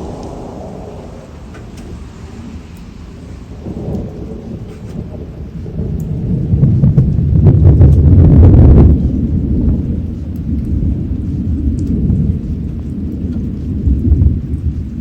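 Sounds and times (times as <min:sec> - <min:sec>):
rain: 0:00.0 - 0:15.0
thunder rumbling: 0:00.0 - 0:15.0.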